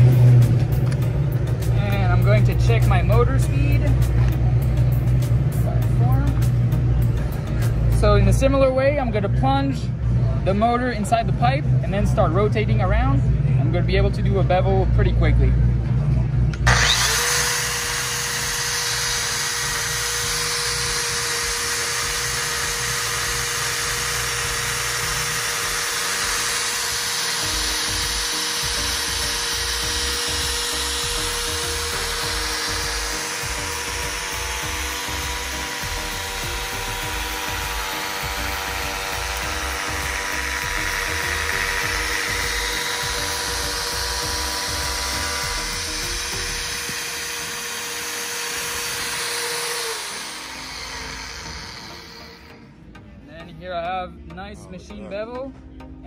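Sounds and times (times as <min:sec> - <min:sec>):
electric motor whining: 0:00.0 - 0:08.7, 0:16.2 - 0:52.8
background music: 0:00.0 - 0:56.0.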